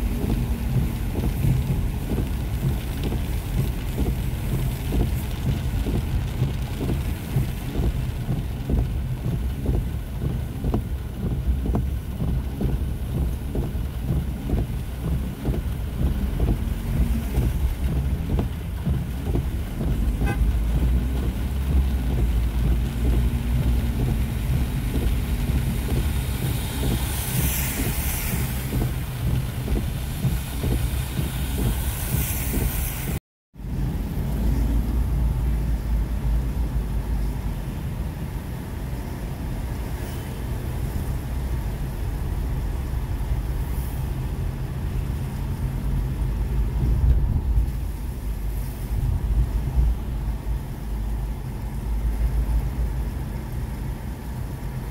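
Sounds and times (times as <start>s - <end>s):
engine and road rumble: 0.0s - 54.9s
tyres hissing on wet road: 0.0s - 54.9s.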